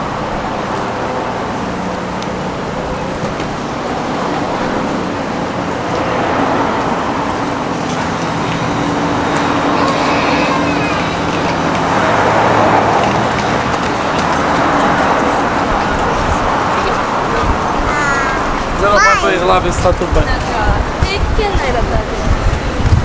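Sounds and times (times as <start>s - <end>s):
low engine hum: 0.0s - 23.0s
vehicles passing: 0.0s - 23.0s.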